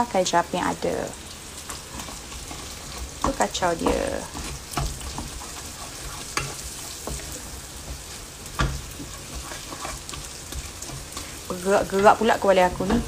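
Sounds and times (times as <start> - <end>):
food sizzling in oil: 0.0 - 13.0
spatula scraping a pan: 1.4 - 13.0.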